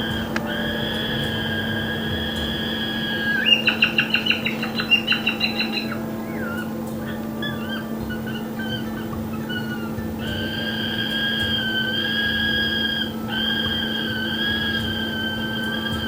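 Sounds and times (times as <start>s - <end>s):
chick beeping begging call: 0.0s - 16.0s
short gliding chirps: 0.0s - 16.0s
steady high tone: 0.0s - 16.0s.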